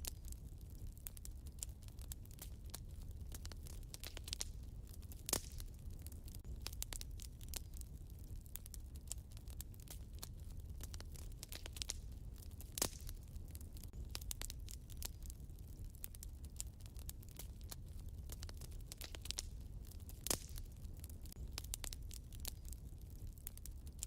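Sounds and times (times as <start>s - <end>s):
fire crackling in a fireplace: 0.0s - 24.0s
low rumble of fire: 0.0s - 24.0s.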